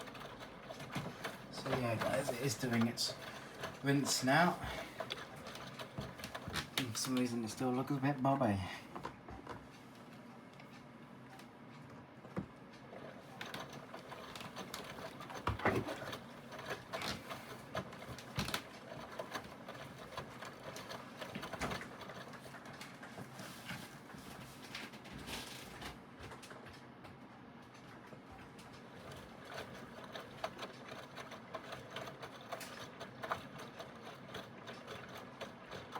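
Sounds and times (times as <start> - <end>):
washing machine motor running: 0.0 - 10.0, 11.1 - 35.9.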